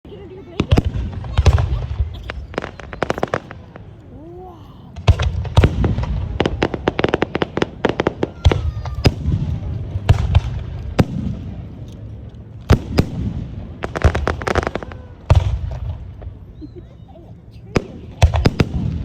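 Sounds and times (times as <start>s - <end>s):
fireworks exploding: 0.1s - 4.1s, 4.9s - 16.8s, 17.6s - 19.0s
low rumble of bursts echoing: 0.1s - 19.0s.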